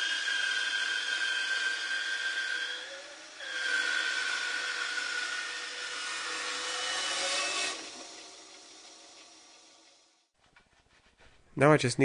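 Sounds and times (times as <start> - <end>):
bandsaw cutting wood: 0.0 - 9.8.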